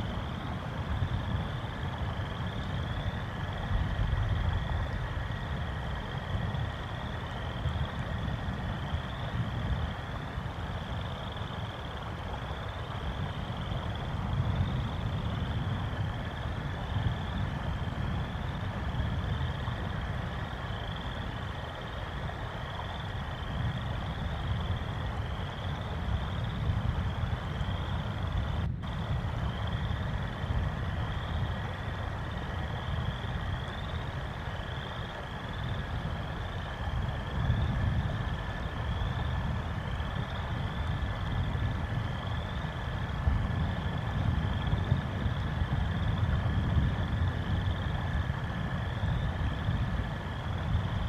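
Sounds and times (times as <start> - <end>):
frogs trilling: 0.0 - 51.0
rain: 0.0 - 51.0
wind: 0.0 - 51.0.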